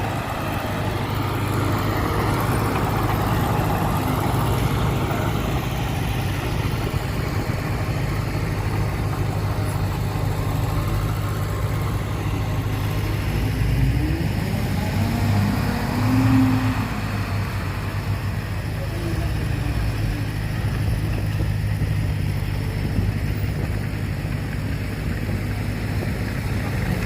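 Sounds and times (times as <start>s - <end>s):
heavy machinery engine humming: 0.0s - 27.0s.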